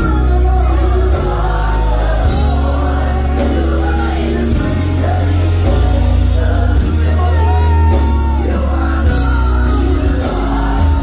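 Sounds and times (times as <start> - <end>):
band accompaniment: 0.0 - 11.0
deep bass line: 0.0 - 11.0
group singing gospel: 0.0 - 11.0.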